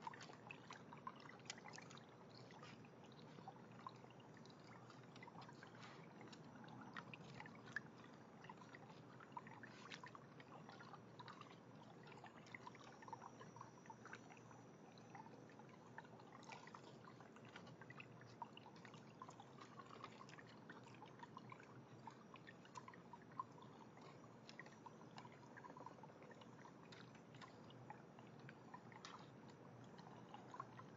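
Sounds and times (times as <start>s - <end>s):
small splashes and clicks: 0.0s - 30.9s
trickling water: 0.0s - 30.9s.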